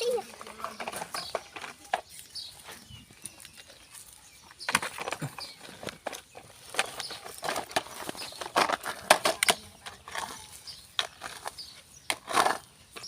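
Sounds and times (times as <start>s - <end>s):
clicks knocks and scrapes: 0.2s - 3.7s, 4.6s - 13.0s.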